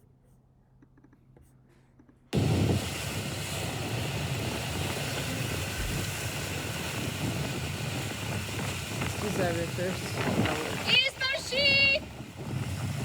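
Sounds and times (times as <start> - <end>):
outboard engine: 2.4 - 13.0
rushing water: 2.4 - 13.0
wind buffeting microphone: 2.4 - 13.0.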